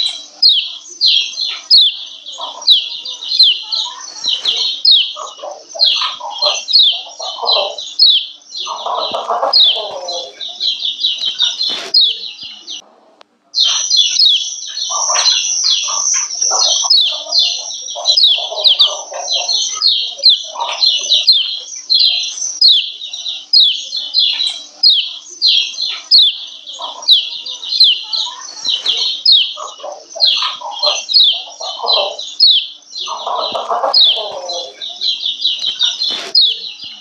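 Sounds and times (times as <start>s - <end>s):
bird giving high calls: 0.0s - 12.8s, 13.6s - 37.0s.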